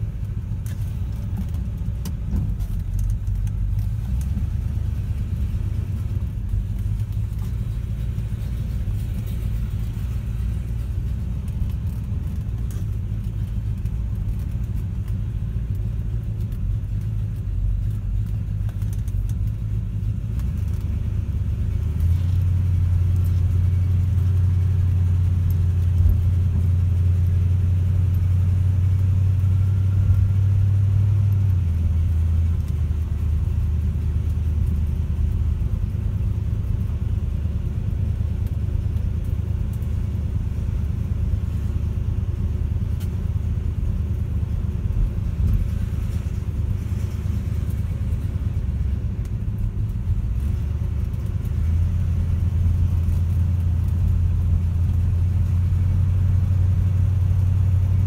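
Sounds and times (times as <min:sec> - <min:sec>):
car engine driving slowly: 0:00.0 - 0:58.0.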